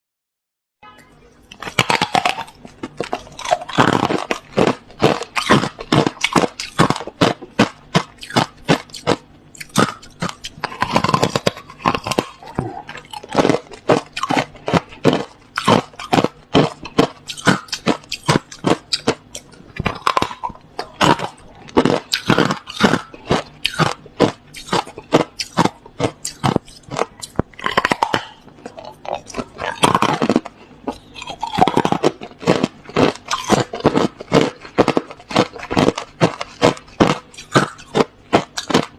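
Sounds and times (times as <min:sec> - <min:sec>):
crushed ice being chewed: 0:01.4 - 0:38.9.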